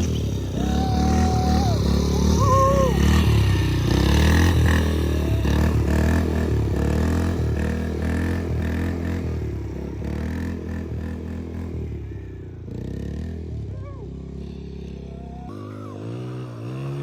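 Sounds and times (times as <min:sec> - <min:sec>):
small dirt bike engine revving: 0:00.0 - 0:12.0, 0:12.7 - 0:17.0.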